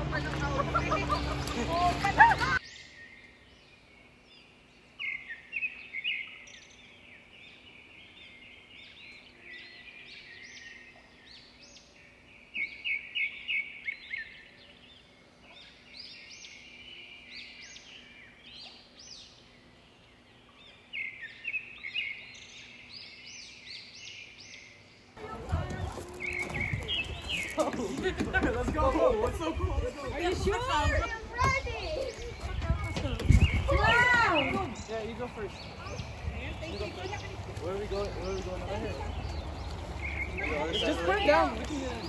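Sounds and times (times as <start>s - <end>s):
songbirds chirping: 0.0s - 42.0s.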